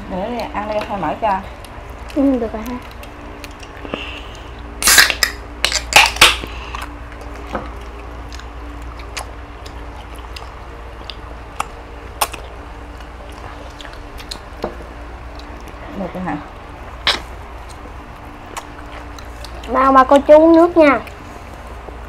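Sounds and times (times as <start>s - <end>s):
people chewing: 0.0s - 22.0s
steady low hum: 0.0s - 22.0s.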